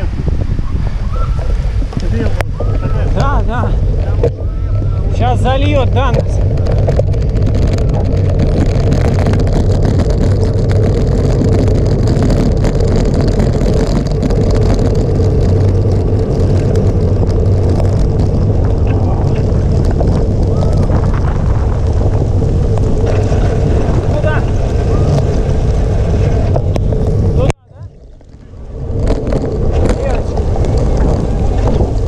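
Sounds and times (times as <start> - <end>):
boat motor hum: 0.0 - 32.0
wind buffeting microphone: 0.0 - 32.0.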